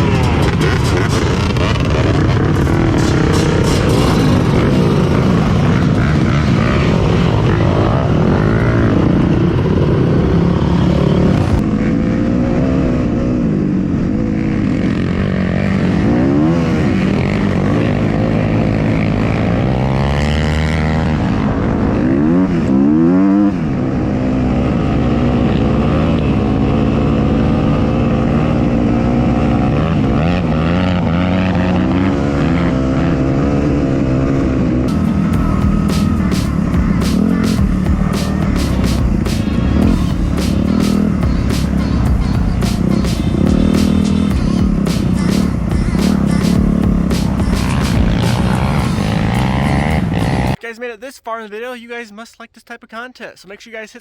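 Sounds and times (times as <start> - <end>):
dirt bike engine revving: 0.0 - 50.6.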